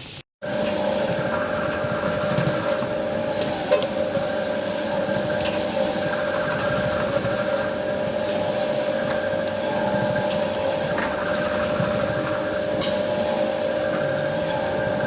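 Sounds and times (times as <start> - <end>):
machine humming: 0.4 - 15.0.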